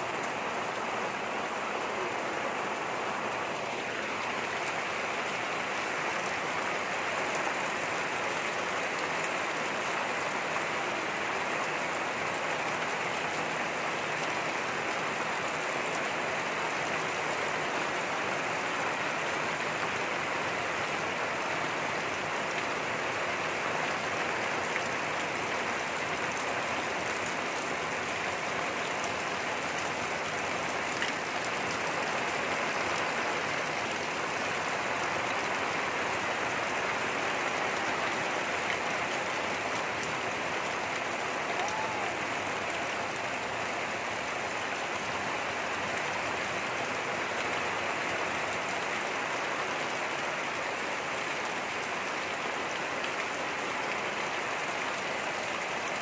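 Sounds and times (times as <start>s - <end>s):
rain on leafy plants: 0.0s - 56.0s.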